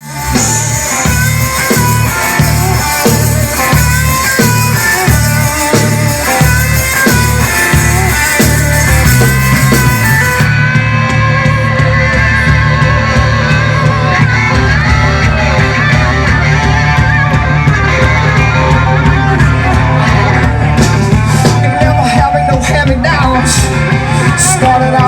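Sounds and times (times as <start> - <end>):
electric guitar bending notes: 0.0 - 25.0
heavy bass pulsing: 0.0 - 25.0.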